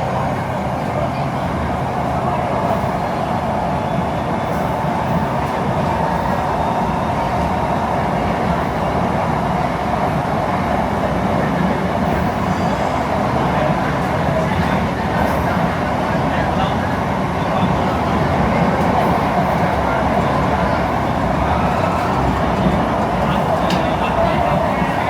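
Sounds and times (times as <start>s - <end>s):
metro train rumbling: 0.0s - 25.0s.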